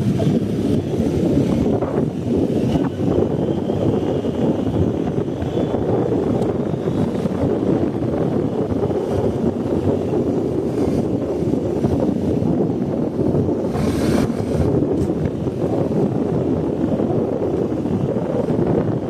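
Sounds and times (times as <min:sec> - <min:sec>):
low motorcycle engine rumble: 0:00.0 - 0:19.0
wind buffeting on microphone: 0:00.0 - 0:19.0.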